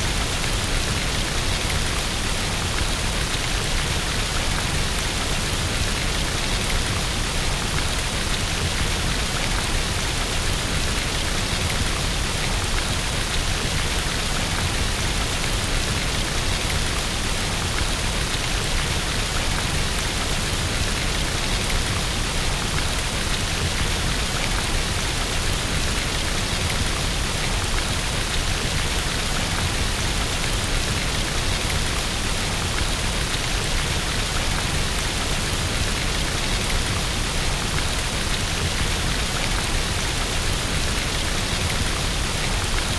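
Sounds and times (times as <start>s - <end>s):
rain on a window: 0.0s - 42.9s.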